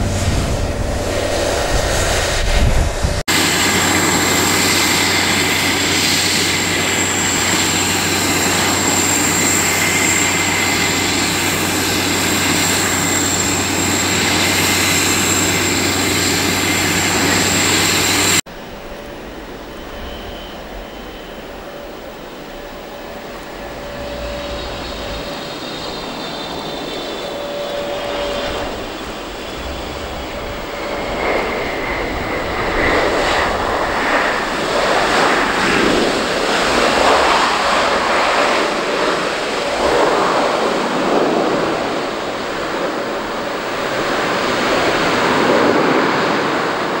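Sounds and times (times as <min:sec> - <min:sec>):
jet engine fan whine: 0:00.0 - 0:47.0
jet engine rush: 0:00.0 - 0:47.0.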